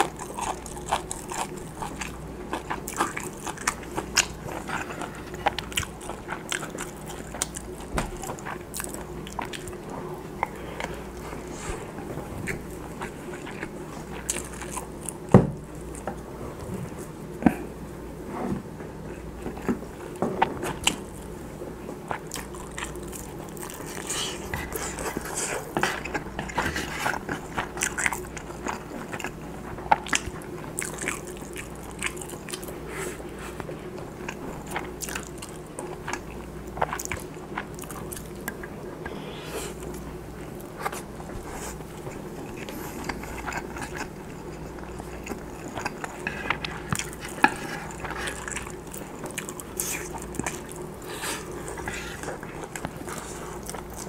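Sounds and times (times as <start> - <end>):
close chewing and biting: 0.0 - 17.7, 19.0 - 54.0.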